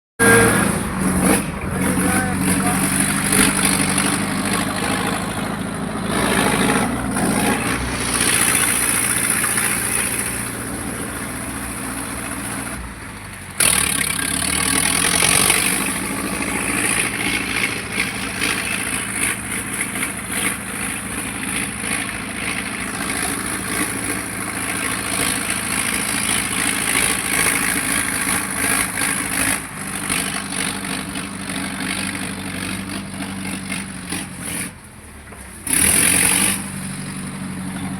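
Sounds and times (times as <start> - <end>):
tractor engine running: 0.2 - 37.9.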